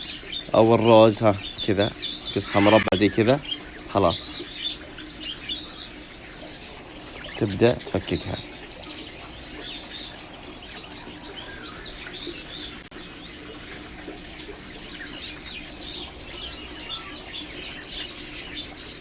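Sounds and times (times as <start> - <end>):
cage birds chirping: 0.0 - 19.0.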